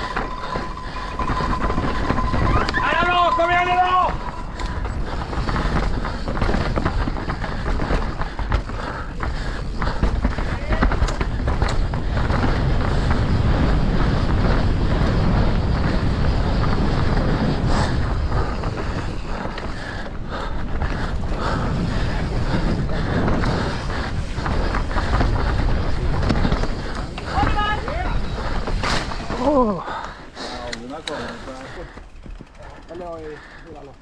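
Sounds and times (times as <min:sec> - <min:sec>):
bike knocks and rattles: 0:00.0 - 0:33.2
wind buffeting microphone: 0:00.0 - 0:33.5
tyres rumbling on trail: 0:00.0 - 0:34.0.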